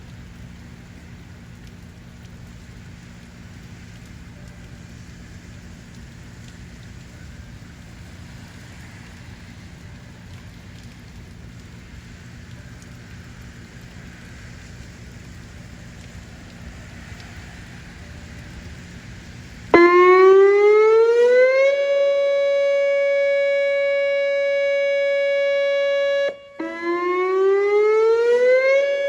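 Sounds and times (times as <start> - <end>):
continuous low hum: 0.0 - 29.0
steady rain: 0.0 - 29.0.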